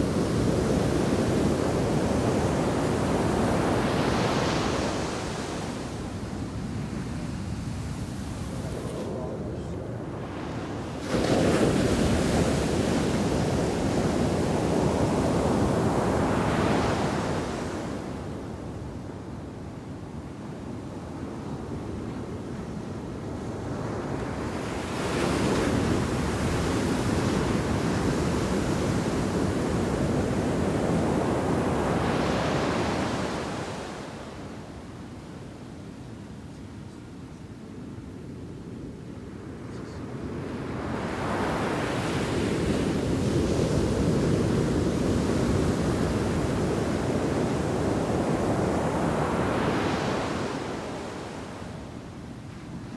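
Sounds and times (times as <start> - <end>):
waves crashing on sand beach: 0.0 - 18.6, 23.9 - 35.2, 39.8 - 52.9.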